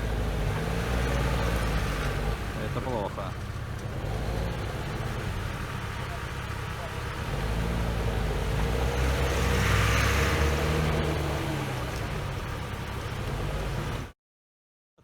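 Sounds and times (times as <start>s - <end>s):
vehicle engine revving: 0.0s - 14.1s.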